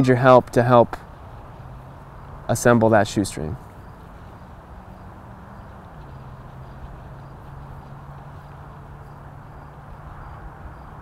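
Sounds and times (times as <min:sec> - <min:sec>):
low outdoor hum: 0:00.0 - 0:11.0.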